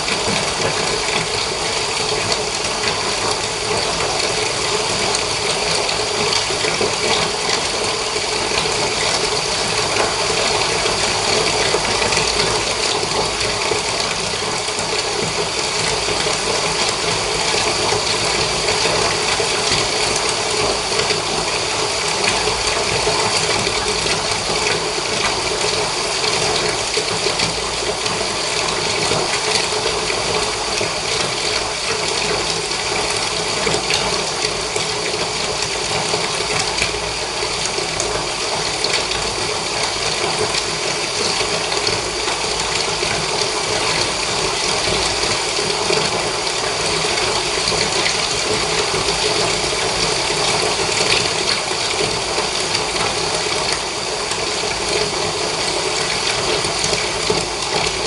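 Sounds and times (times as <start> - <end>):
tap water running into bath: 0.0 - 58.0.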